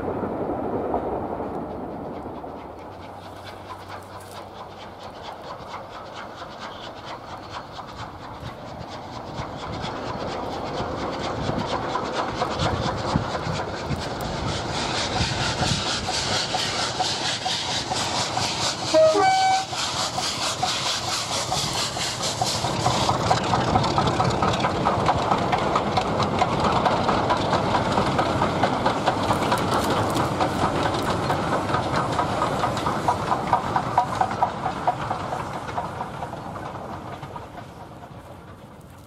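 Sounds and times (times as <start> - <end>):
steam train passing: 0.0 - 39.0.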